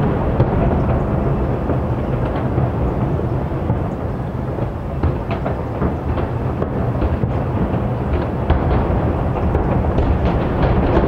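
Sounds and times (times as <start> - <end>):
distant fireworks rumbling: 0.0 - 11.0
faint fireworks cracks: 0.0 - 11.0.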